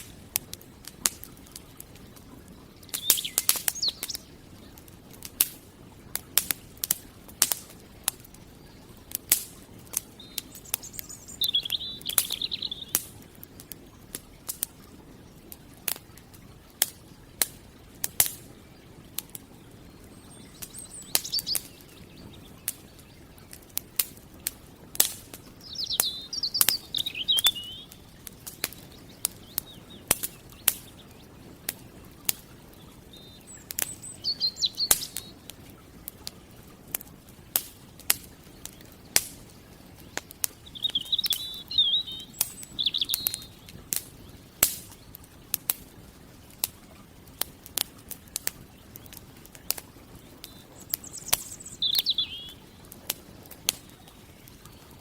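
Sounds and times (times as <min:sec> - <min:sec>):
campfire crackling and popping: 0:00.0 - 0:55.0
songbird singing: 0:01.2 - 0:05.2, 0:05.9 - 0:14.9, 0:18.4 - 0:24.0, 0:24.6 - 0:36.8, 0:37.4 - 0:46.4, 0:48.6 - 0:55.0.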